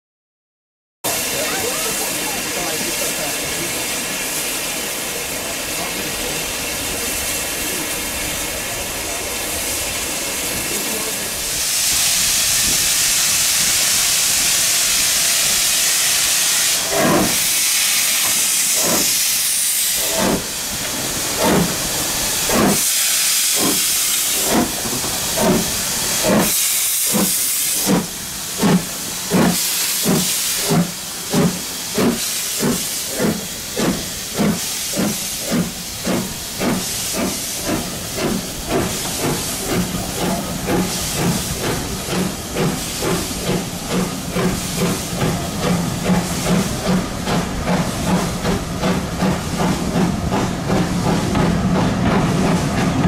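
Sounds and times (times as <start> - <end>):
steam hissing from locomotive: 1.1 - 53.0
steam locomotive exhaust chuffs: 1.1 - 53.0.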